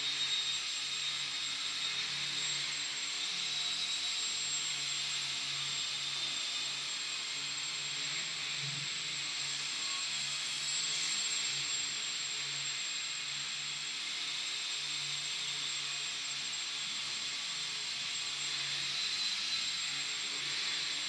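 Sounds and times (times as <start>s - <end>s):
electric motor and propeller whine: 0.0s - 21.0s.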